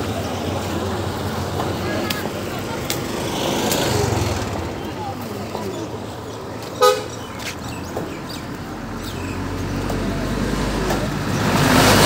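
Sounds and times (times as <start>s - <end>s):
vehicle engine hum and road noise: 0.0s - 12.0s.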